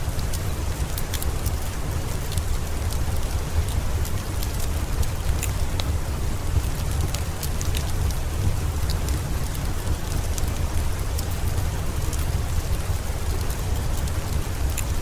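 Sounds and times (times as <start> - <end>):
steady rain rumble: 0.0 - 15.0
wood fire crackling: 0.0 - 15.0.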